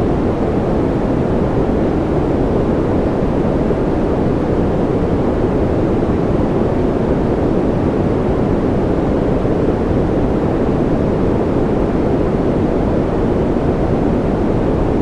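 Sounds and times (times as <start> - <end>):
deep muffled white noise: 0.0 - 15.0.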